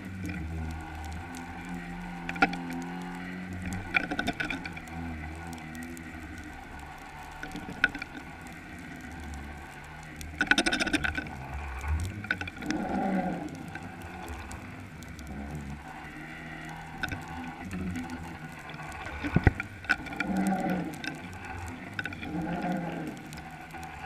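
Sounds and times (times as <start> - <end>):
rattle of clicks: 0.0 - 24.0
underwater low rumble: 0.0 - 24.0.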